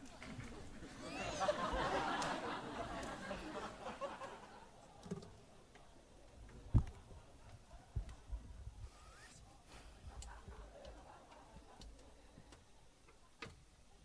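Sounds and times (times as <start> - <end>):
audience murmur: 0.0 - 13.4.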